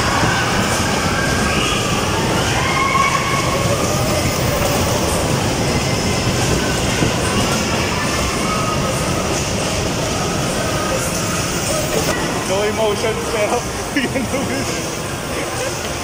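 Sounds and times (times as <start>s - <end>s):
ride rumbling on track: 0.0s - 16.0s.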